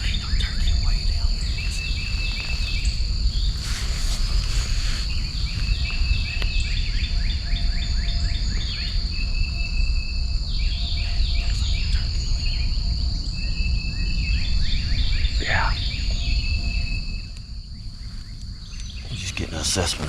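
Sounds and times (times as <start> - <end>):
high-pitched insect drone: 0.0 - 20.0
songbirds chirping and trilling: 0.0 - 20.0.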